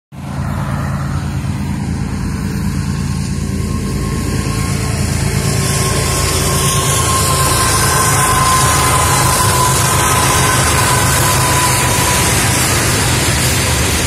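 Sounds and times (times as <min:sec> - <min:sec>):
diesel locomotive engine rumble: 0:00.1 - 0:14.0.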